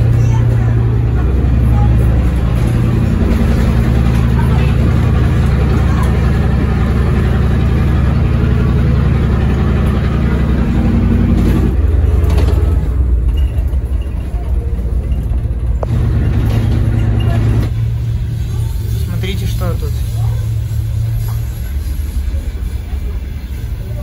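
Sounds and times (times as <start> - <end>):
bus engine running: 0.0 - 24.0.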